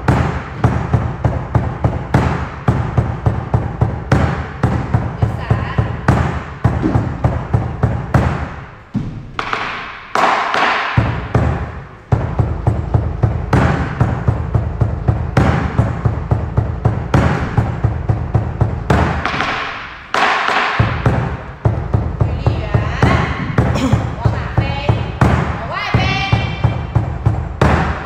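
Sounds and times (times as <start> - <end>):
dance music with quick beat: 0.0 - 28.0.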